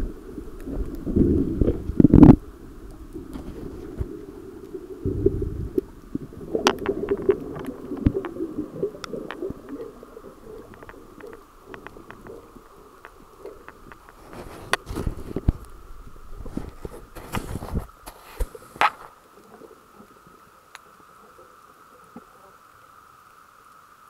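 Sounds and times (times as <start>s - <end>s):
underwater rumbling: 0.0s - 22.5s
underwater clicks and crackles: 0.0s - 23.9s.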